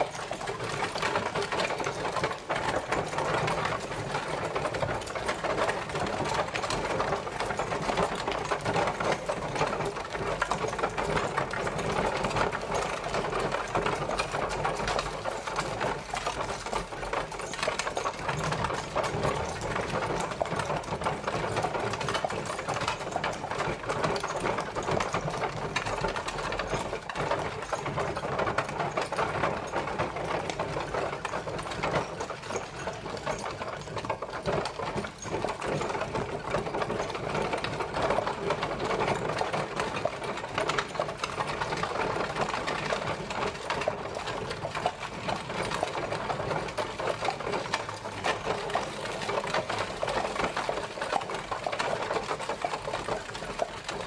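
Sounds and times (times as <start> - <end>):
horse-drawn carriage rattling: 0.0 - 54.0.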